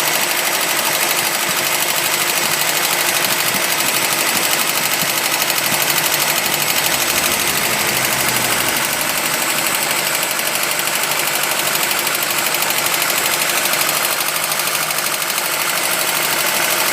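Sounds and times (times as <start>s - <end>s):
car engine running: 0.0s - 16.9s
pulley rattling against cover: 0.4s - 16.9s.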